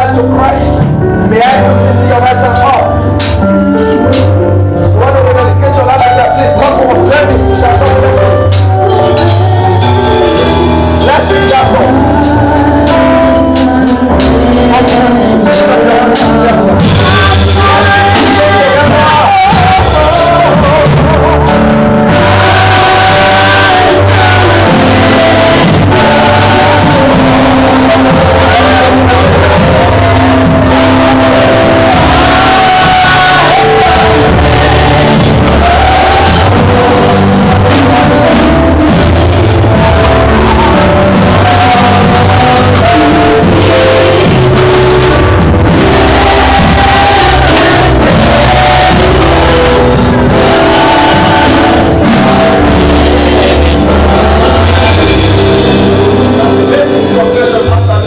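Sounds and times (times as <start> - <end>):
steady drum beat: 0.0 - 58.0
worship song with instruments: 0.0 - 58.0.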